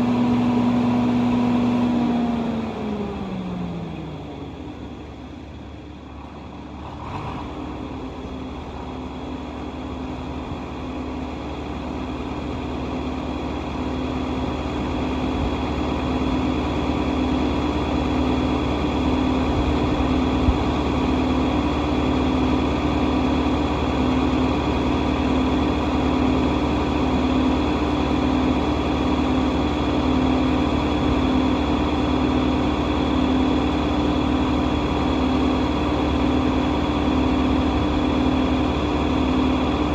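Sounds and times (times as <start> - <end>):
tractor engine running: 0.0 - 6.8, 7.8 - 39.9.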